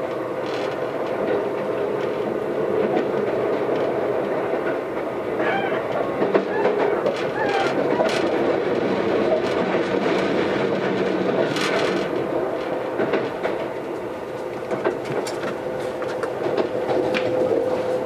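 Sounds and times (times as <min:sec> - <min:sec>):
train rumble with humming tone: 0:00.0 - 0:18.0
wheel clicks over rail joints: 0:00.1 - 0:17.8.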